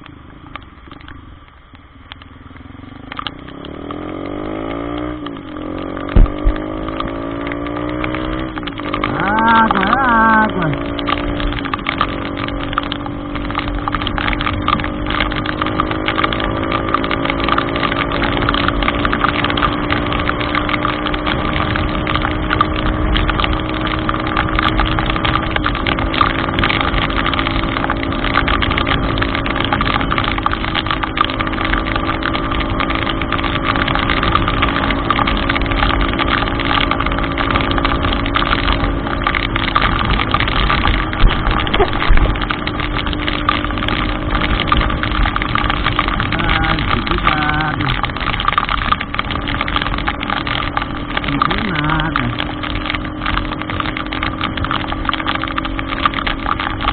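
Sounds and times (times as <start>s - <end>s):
rain hissing on flooded road: 0.0s - 56.9s
vehicle engine running: 0.0s - 56.9s.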